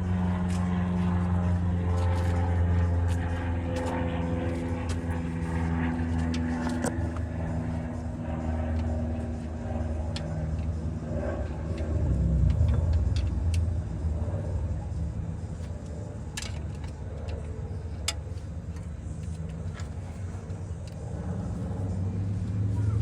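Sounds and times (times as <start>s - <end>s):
low engine-like rumble: 0.0s - 23.0s.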